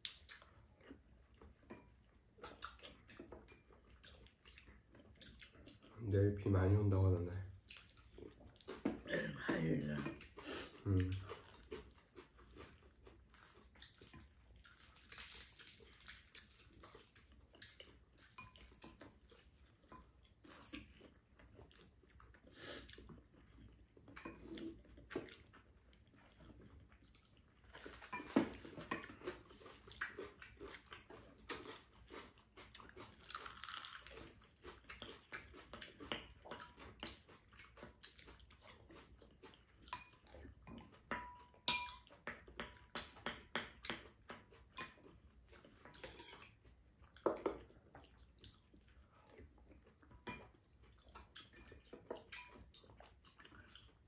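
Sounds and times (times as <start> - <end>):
people chewing: 0.0 - 6.0, 7.5 - 54.0.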